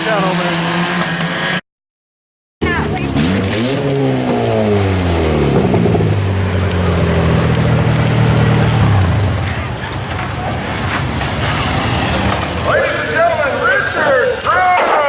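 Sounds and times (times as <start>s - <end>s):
race car engine revving: 0.0s - 1.6s, 2.6s - 14.5s.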